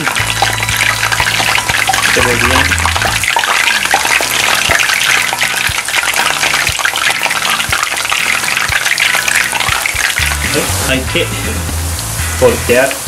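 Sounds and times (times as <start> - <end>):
tempura sizzling in oil: 0.0 - 13.0.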